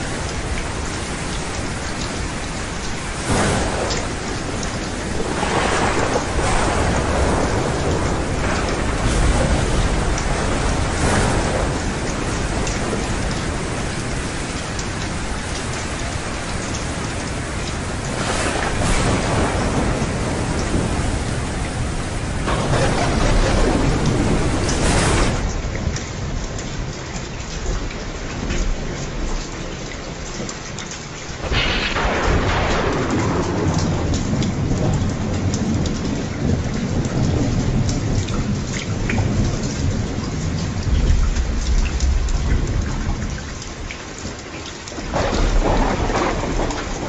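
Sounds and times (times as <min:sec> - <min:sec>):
thunder rumbling: 0:00.0 - 0:26.5, 0:31.3 - 0:44.0, 0:45.0 - 0:47.0
heavy rain hissing: 0:00.0 - 0:47.0
raindrops ticking: 0:00.0 - 0:47.0.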